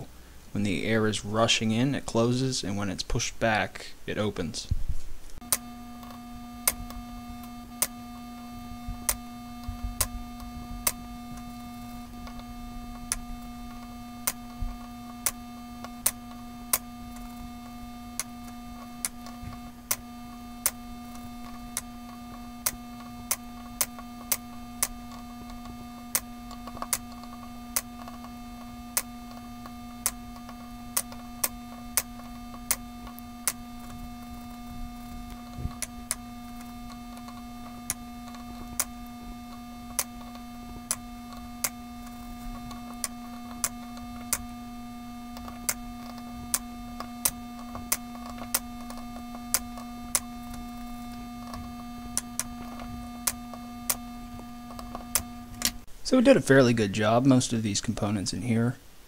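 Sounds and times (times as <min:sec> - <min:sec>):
electrical hum: 0:00.0 - 0:59.0
solenoid clicking: 0:05.4 - 0:55.8.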